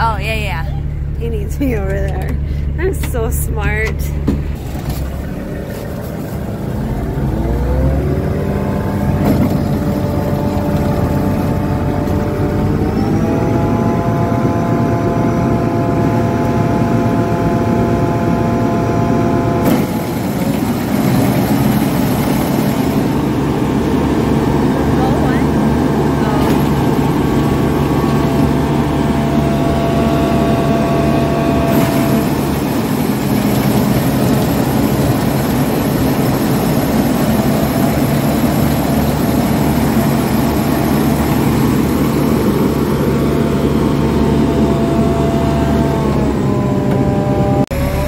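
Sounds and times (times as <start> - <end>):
diesel engine humming: 0.0 - 48.0.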